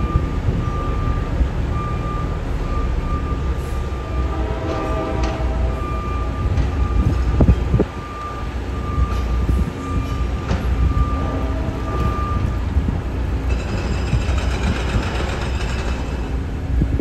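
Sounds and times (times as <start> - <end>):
diesel locomotive engines rumbling: 0.0 - 17.0.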